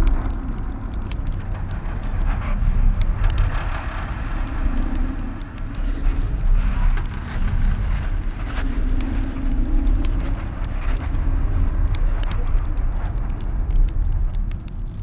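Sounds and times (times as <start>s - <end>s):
deep rumble with low hum: 0.0s - 15.0s
sharp clicks and crackles: 0.0s - 15.0s.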